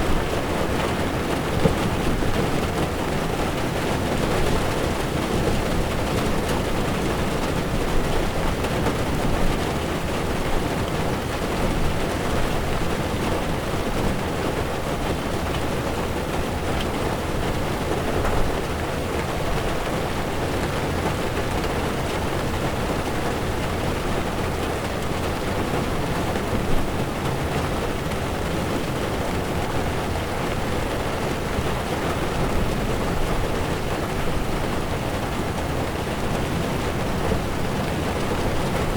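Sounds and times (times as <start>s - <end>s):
rain drumming on windshield: 0.0s - 38.9s.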